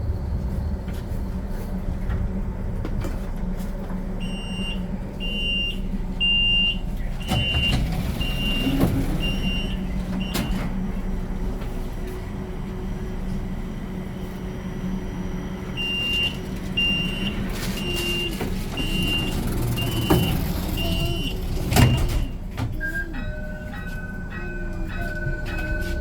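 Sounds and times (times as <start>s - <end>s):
tram running hum: 0.0s - 26.0s.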